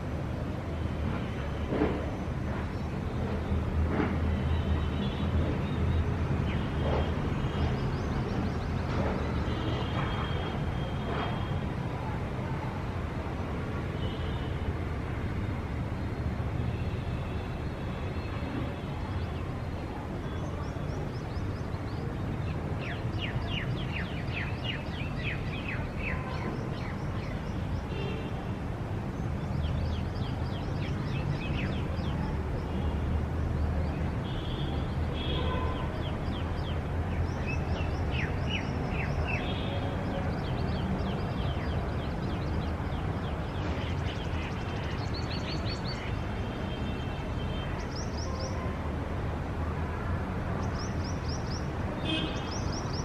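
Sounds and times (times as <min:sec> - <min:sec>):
distant city traffic: 0:00.0 - 0:53.0.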